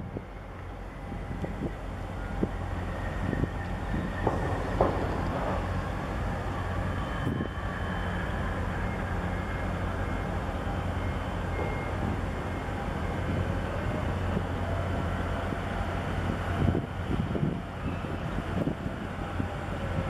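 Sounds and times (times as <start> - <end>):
low engine drone: 0.0 - 20.0.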